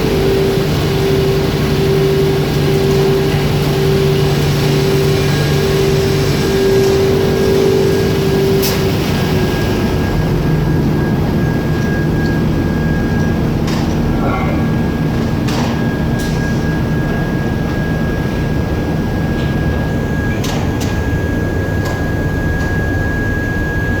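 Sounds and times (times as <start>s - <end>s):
high machine whine: 0.0s - 24.0s
machinery drone: 0.0s - 24.0s.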